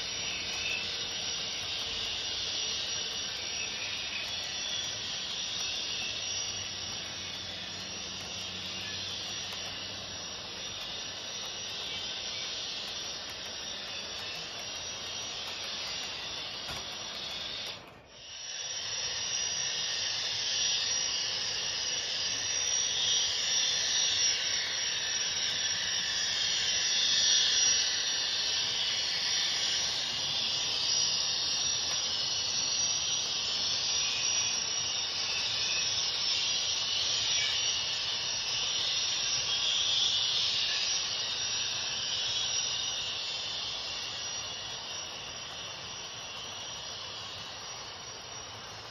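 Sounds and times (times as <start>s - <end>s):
turbine hiss: 0.0s - 48.9s.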